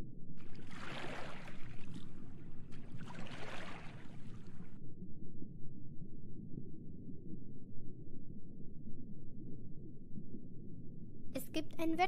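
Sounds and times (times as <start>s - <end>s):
low underwater rumble: 0.0s - 11.3s.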